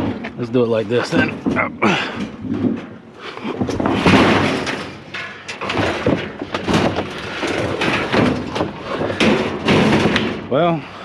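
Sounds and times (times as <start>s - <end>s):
knocks and thuds: 0.0s - 10.5s
sheet metal clattering and scraping: 0.0s - 10.9s.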